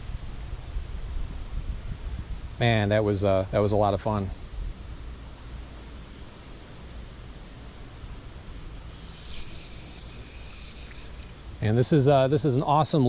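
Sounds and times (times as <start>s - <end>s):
insects trilling: 0.0s - 13.0s
outdoor background hiss: 0.0s - 13.0s.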